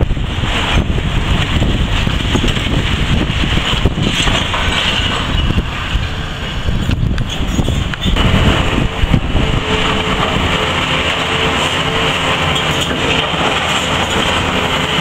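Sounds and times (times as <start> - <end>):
excavator diesel engine: 0.0 - 15.0
wind buffeting microphone: 0.0 - 15.0
debris crunching and falling: 0.5 - 5.9, 8.2 - 15.0.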